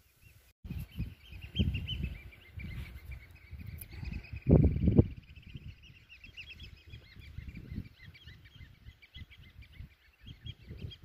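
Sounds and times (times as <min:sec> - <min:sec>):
flock of birds calling: 0:00.3 - 0:11.0.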